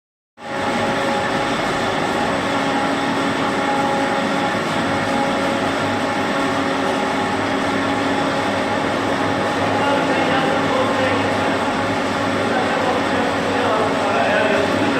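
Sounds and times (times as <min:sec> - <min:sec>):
twisting machine rattling and humming: 0:00.4 - 0:14.9.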